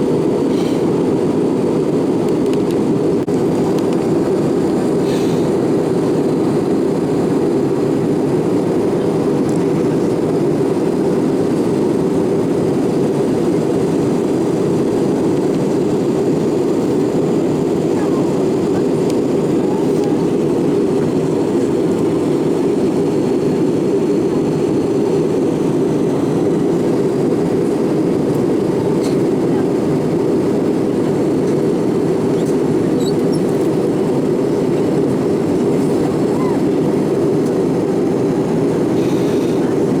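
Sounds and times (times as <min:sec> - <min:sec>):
airplane cabin engine rush: 0:00.0 - 0:40.0.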